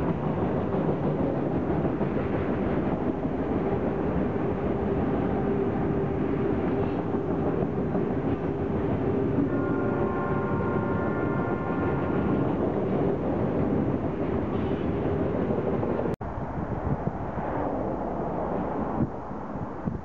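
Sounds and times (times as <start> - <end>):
freight train rumbling past: 0.0 - 20.0
wind on microphone: 0.0 - 20.0.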